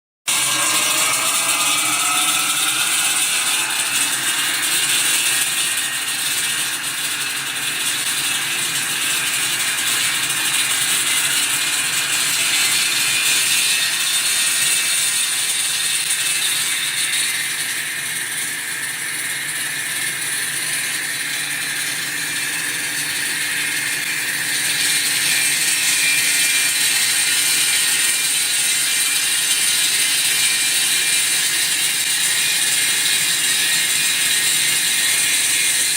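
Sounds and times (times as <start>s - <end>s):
motor whine: 0.3s - 34.4s
wall saw grinding concrete: 0.3s - 35.9s.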